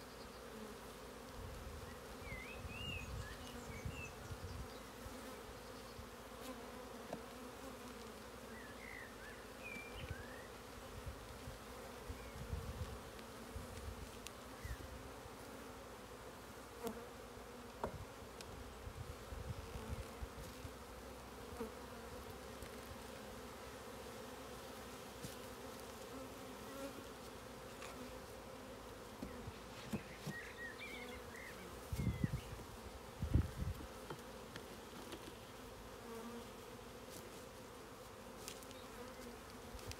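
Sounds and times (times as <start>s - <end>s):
bees humming: 0.0s - 39.9s.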